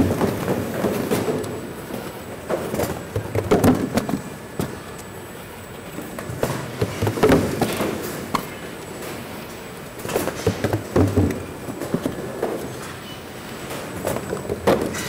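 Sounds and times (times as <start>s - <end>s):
cartons and trays clattering: 0.0s - 4.9s, 5.9s - 15.0s.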